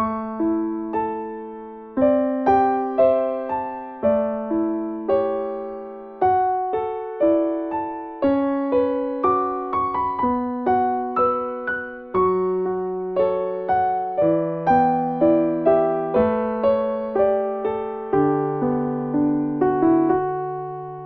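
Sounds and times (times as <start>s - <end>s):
slow gentle solo piano: 0.0s - 21.0s.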